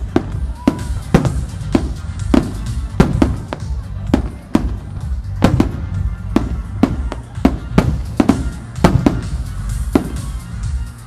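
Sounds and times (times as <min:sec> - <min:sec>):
fireworks bursting with echoes: 0:00.0 - 0:11.0
music playing: 0:00.0 - 0:11.0.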